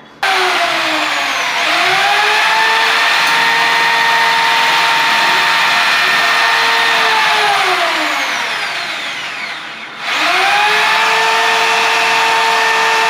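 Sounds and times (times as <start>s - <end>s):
power tool motor whine: 0.2s - 13.0s.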